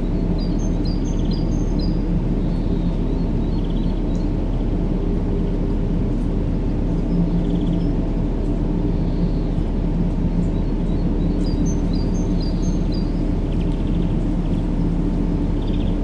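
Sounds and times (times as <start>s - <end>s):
low rumbling white noise: 0.0s - 16.0s.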